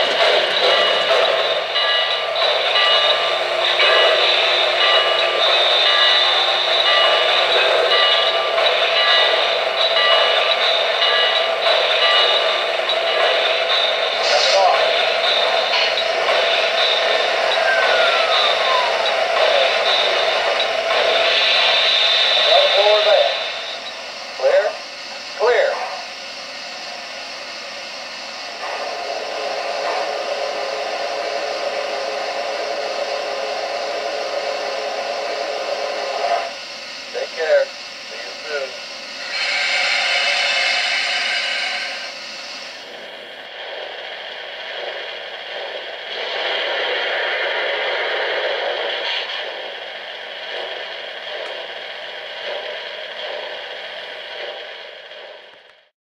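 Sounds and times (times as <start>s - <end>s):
model steam locomotive hissing steam: 0.0s - 55.9s.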